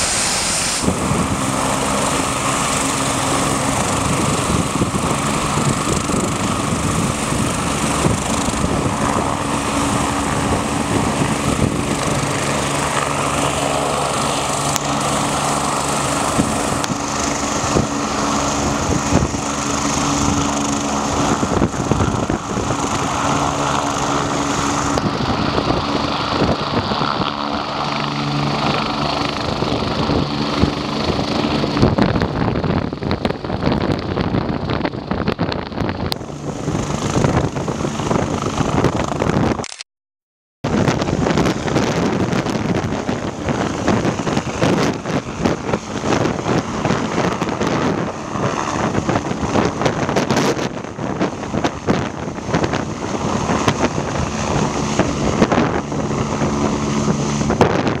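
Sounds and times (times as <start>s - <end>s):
helicopter engines and rotor: 0.0s - 39.8s, 40.6s - 58.0s.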